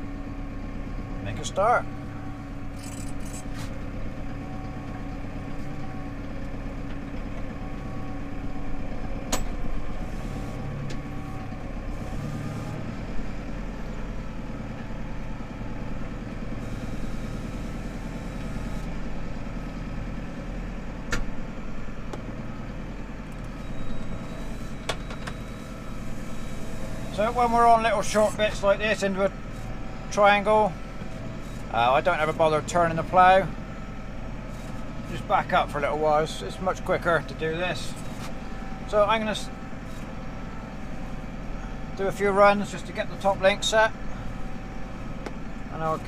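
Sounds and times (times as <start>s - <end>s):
tractor engine under load: 0.0s - 46.0s.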